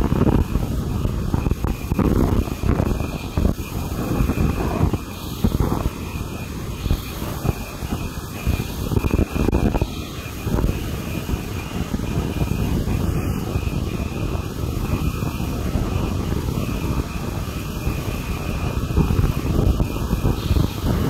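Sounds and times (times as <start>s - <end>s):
sawmill mechanical drone: 0.0s - 21.0s.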